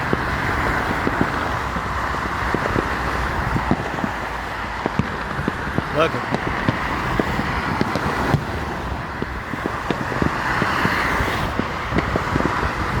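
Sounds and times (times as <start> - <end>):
freeway traffic: 0.0 - 13.0.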